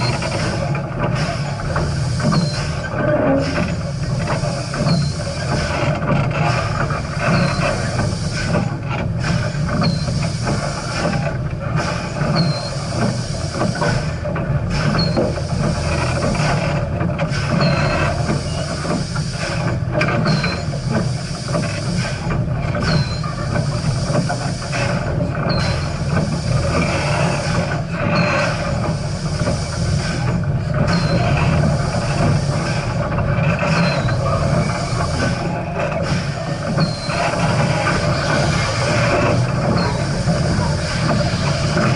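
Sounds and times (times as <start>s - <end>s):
steam train rumble and hiss: 0.0s - 41.9s.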